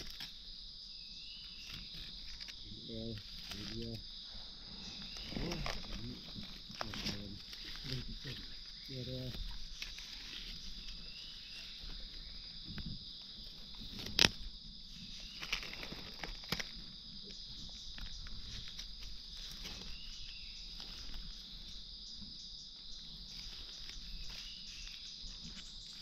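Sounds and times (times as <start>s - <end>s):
insects chorus: 0.0s - 26.0s
faint rustles: 1.5s - 26.0s.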